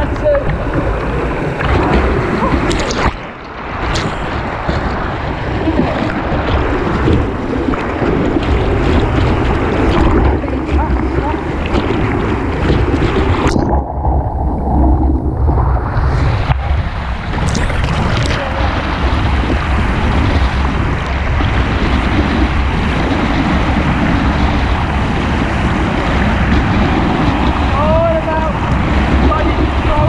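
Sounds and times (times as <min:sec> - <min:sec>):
heavy low rumble: 0:00.0 - 0:30.0
paddle strokes splashing: 0:00.0 - 0:30.0
water slapping hull: 0:00.0 - 0:30.0
water splashing over deck: 0:00.0 - 0:30.0
whitewater rushing and churning: 0:00.0 - 0:30.0.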